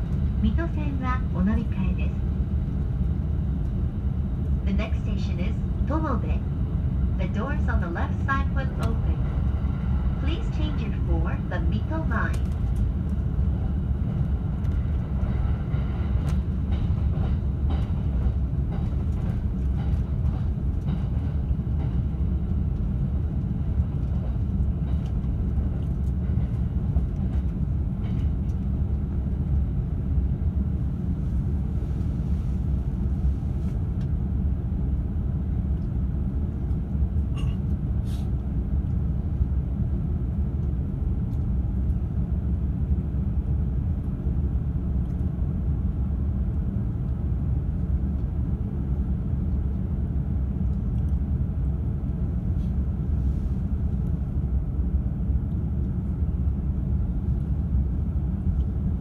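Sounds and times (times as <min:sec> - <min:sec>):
electric train running on rails: 0:00.0 - 0:59.0.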